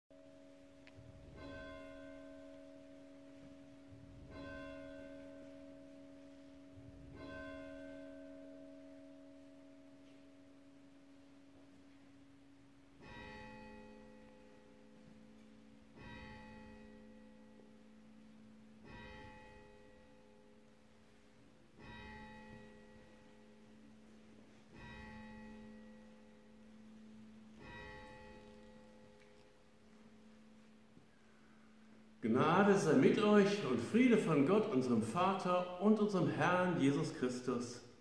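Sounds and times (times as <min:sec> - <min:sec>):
church bells tolling: 0:00.1 - 0:38.0.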